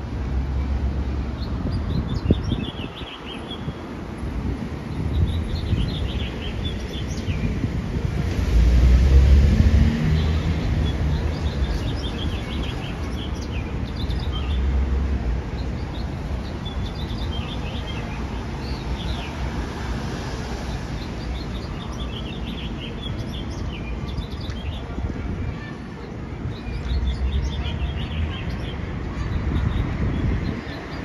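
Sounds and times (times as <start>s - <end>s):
street traffic rumble: 0.0s - 31.0s
birds chirping: 0.2s - 4.0s, 4.7s - 7.7s, 9.9s - 31.0s.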